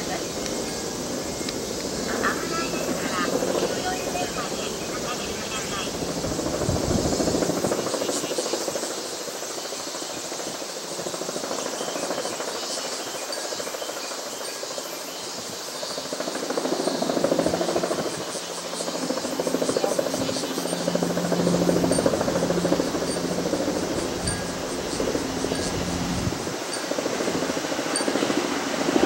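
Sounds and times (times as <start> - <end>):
helicopter rotor beating: 0.0 - 29.0.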